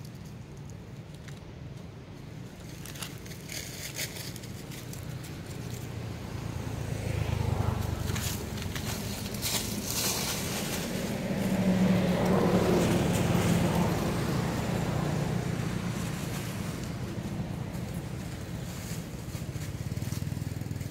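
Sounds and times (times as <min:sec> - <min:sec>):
dry leaves crackling: 0:02.2 - 0:20.9
vehicle engine passing by: 0:04.2 - 0:20.9.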